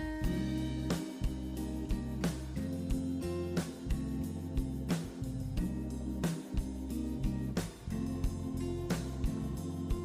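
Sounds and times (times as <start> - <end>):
bass line with beat: 0.0 - 10.0
plucked guitar: 0.0 - 10.0.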